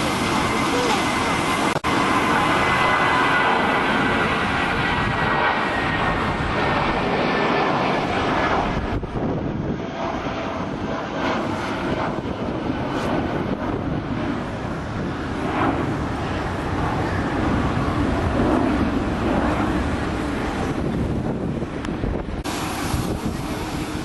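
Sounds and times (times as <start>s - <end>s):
jet engine whine: 0.0s - 24.0s
jet engines rushing: 0.0s - 24.0s.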